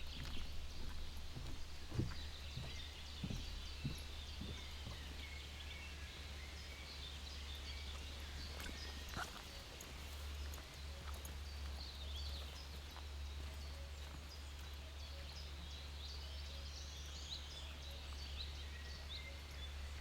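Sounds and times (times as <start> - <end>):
footsteps on woodland path: 0.0 - 20.0
forest birds chirping: 0.0 - 20.0.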